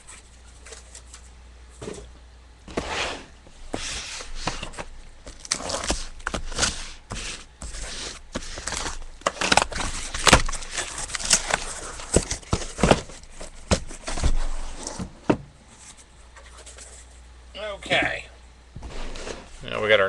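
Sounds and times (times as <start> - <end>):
cardboard rustling and scraping: 0.0 - 2.1, 2.7 - 17.2, 18.8 - 19.8.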